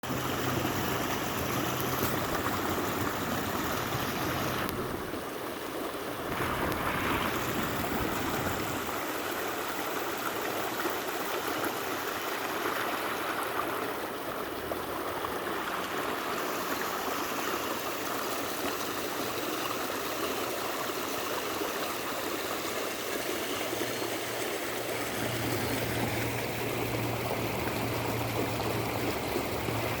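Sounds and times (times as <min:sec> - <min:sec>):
stream of water flowing: 0:00.0 - 0:30.0.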